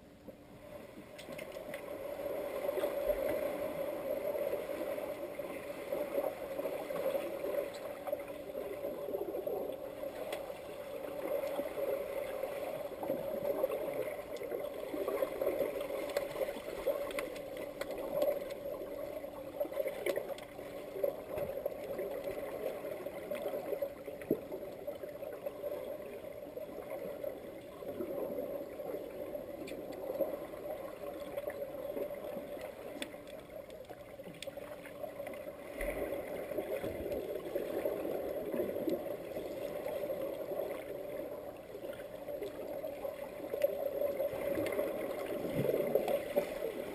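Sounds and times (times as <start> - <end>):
muffled underwater rush: 0.6 - 46.9.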